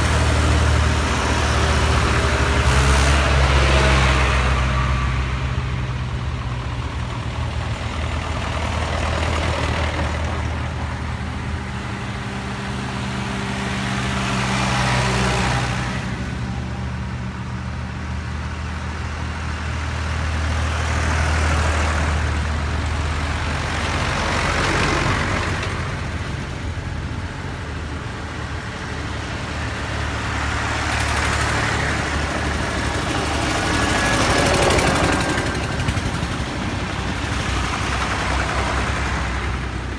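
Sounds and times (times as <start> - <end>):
tractor engines passing: 0.0 - 39.9.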